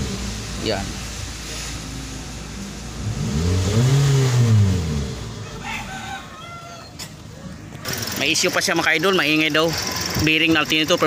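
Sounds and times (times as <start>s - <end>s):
car engine revving: 0.0s - 5.6s, 7.5s - 11.0s.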